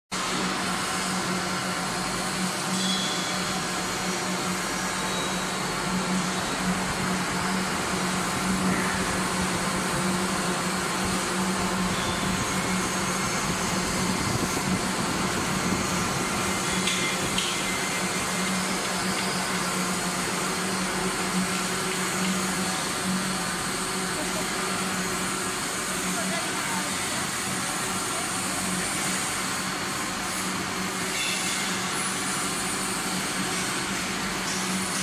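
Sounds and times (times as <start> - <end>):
low machine hum: 0.2 - 31.0
machinery whirring: 0.2 - 35.0.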